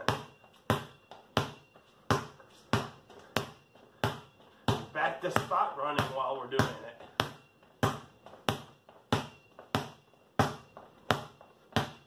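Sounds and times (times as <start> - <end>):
basketball bouncing on concrete: 0.0 - 12.0.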